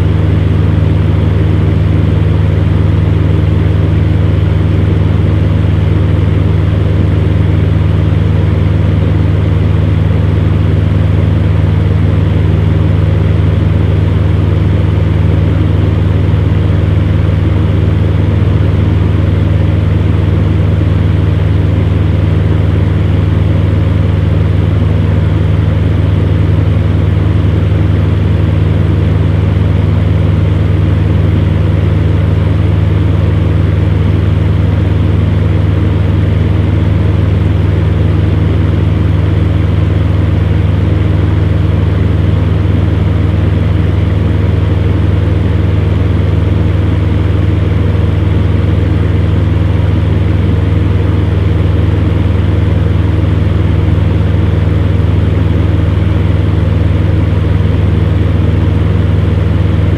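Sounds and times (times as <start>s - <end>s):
fan heater motor hum: 0.0s - 59.9s.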